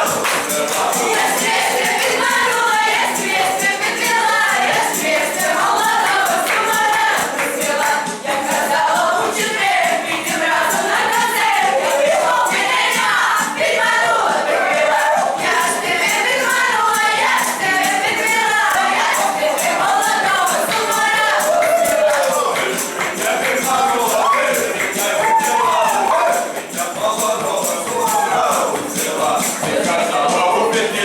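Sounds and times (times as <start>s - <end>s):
group of voices singing: 0.0s - 31.0s
tambourine beat: 0.0s - 31.0s.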